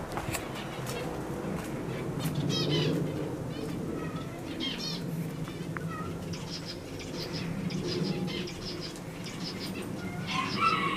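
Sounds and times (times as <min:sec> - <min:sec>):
small birds chirping: 0:00.3 - 0:10.9.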